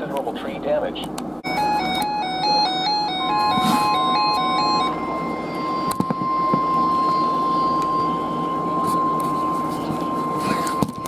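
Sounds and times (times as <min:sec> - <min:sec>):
steady alarm tone: 0:01.4 - 0:11.0
two-note electronic beeps: 0:01.4 - 0:11.0.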